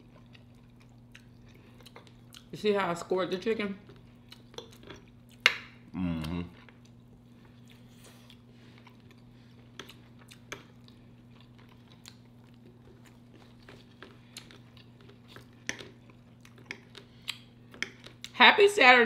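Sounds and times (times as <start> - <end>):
chewing and eating sounds: 0.0 - 18.4
faint low hum: 0.0 - 19.0.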